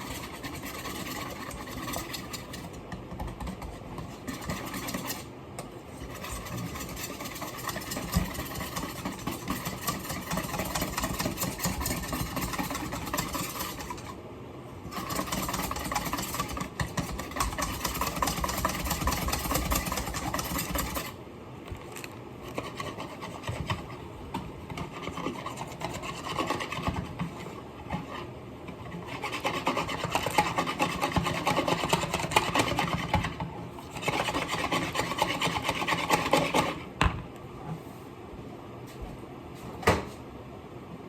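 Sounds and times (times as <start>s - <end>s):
scratchy rubbing and rasping: 0.0s - 14.2s, 14.9s - 21.2s, 21.8s - 36.9s.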